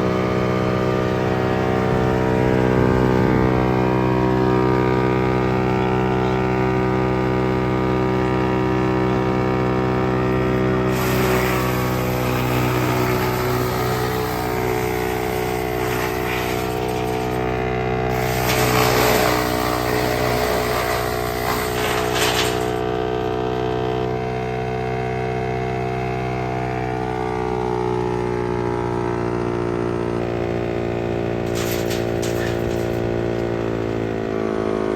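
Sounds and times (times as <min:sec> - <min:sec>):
wood chipper running: 0:00.0 - 0:34.9.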